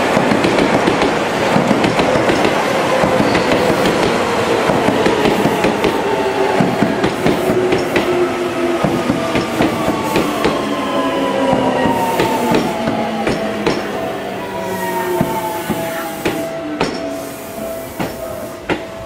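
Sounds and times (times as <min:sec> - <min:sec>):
train wheels clacking over rail joints: 0:00.0 - 0:08.2, 0:08.8 - 0:10.7, 0:11.5 - 0:13.9, 0:15.2 - 0:17.2, 0:17.9 - 0:19.0.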